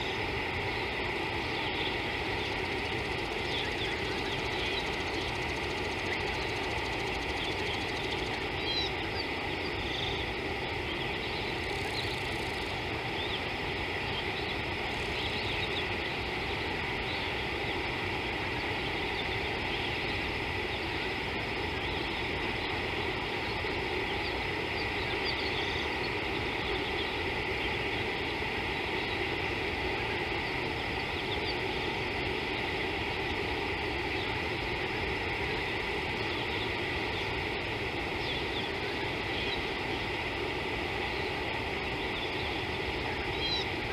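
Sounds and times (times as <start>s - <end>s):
hiss and low hum: 0.0s - 43.9s.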